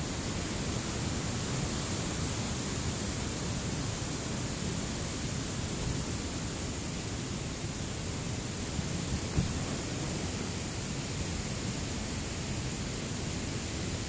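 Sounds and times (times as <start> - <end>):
constant hiss: 0.0 - 14.0.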